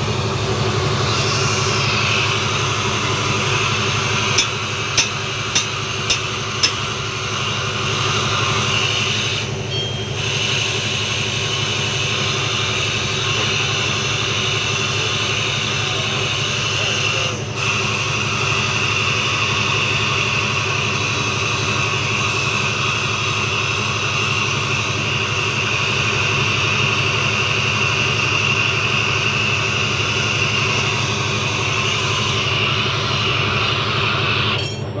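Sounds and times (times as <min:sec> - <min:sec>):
machine humming and hissing: 0:00.0 - 0:35.0.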